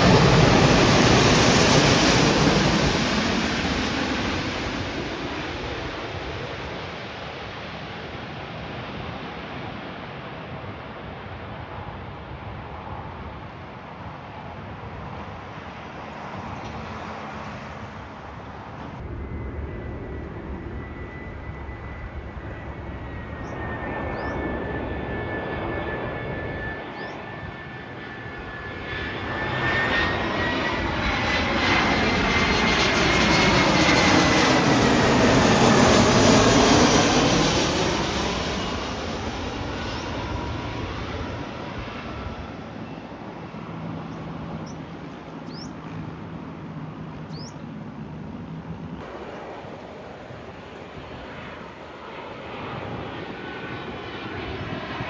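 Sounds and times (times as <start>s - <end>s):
jet airliner passing overhead: 0.0s - 55.0s.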